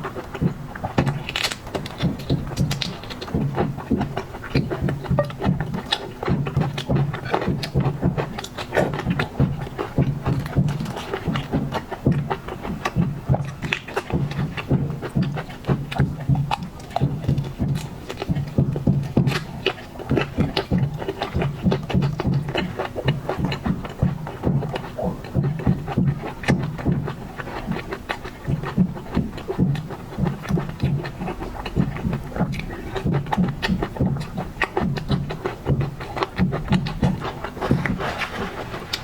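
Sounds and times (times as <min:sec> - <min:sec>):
crisp clicks of seafood bitten: 0:00.0 - 0:39.0
wet chewing and mouth smacks: 0:00.0 - 0:39.0.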